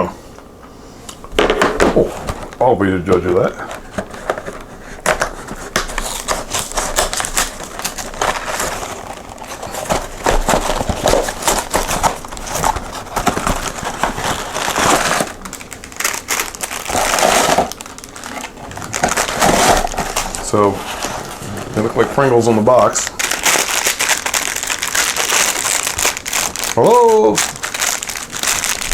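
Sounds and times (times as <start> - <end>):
packaging crinkling: 1.3 - 28.9.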